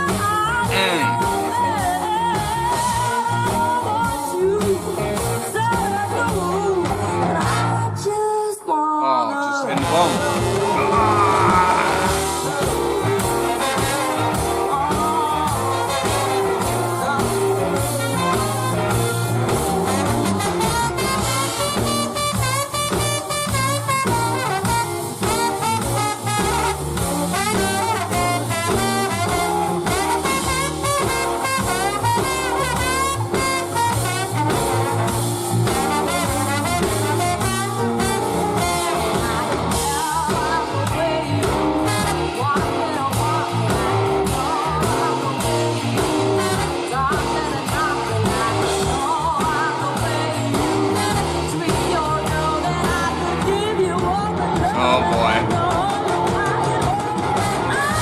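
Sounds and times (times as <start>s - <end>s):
person singing: 0.0s - 35.0s, 35.9s - 58.0s
live funky jazz band with brass: 0.0s - 58.0s.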